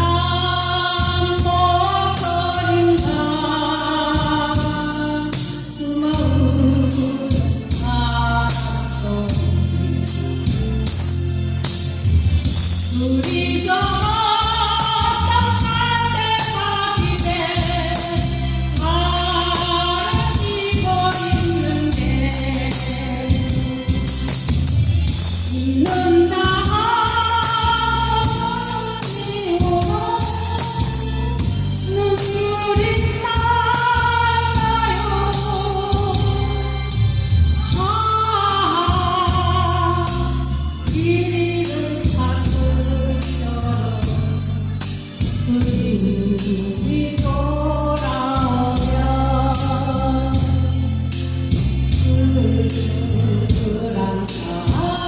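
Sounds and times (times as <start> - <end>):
backing track with beat and bass: 0.0 - 55.0.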